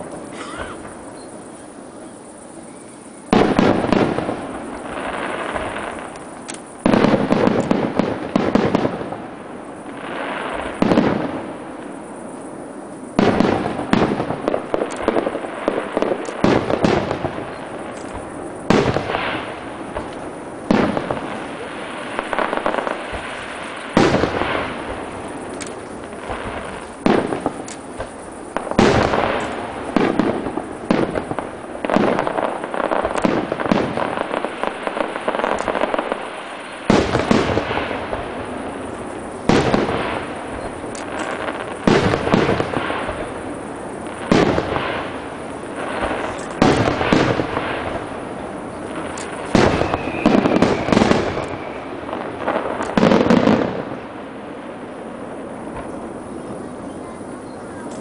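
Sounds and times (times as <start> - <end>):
firework crackling: 0.0 - 58.0
firework shells bursting: 3.3 - 9.4, 13.1 - 54.4.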